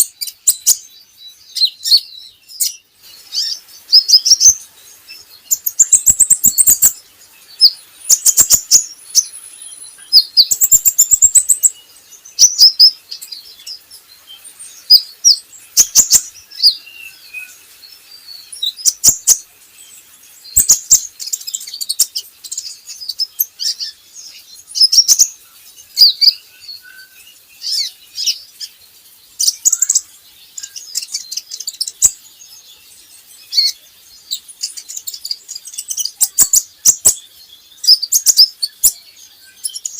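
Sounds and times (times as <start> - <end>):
small bird chirping and trilling: 0.0 - 39.9.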